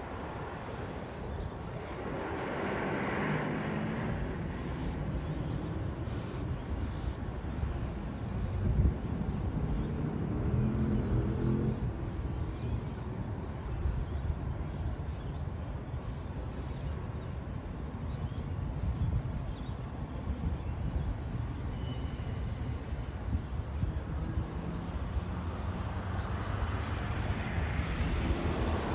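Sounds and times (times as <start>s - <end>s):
rumble of vehicles: 0.0s - 28.9s.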